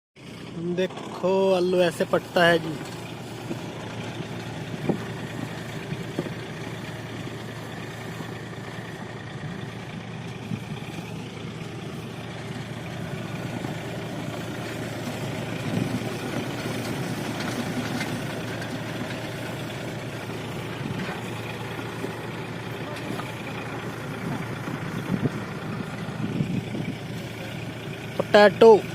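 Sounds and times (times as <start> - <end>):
tractor engine running: 0.2 - 28.9.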